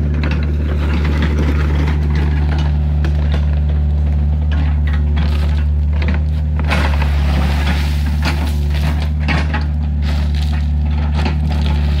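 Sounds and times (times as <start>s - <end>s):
heavy diesel engine running: 0.0s - 12.0s
stone and gravel crunching: 0.4s - 12.0s.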